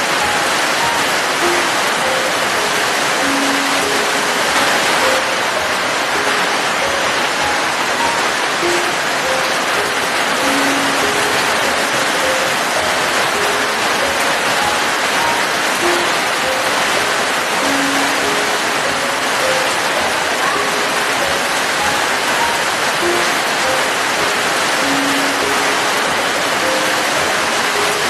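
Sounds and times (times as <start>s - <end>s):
soft slow melody: 0.0s - 28.0s
steady rain: 0.0s - 28.0s.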